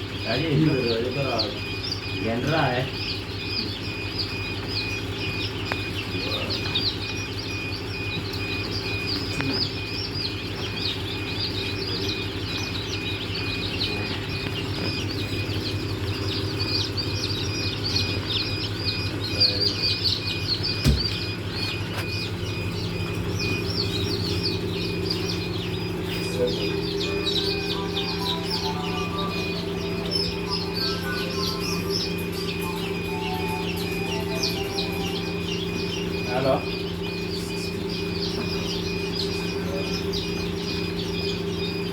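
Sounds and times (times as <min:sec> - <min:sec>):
chicks peeping: 0:00.0 - 0:41.9
steady low hum: 0:00.0 - 0:41.9.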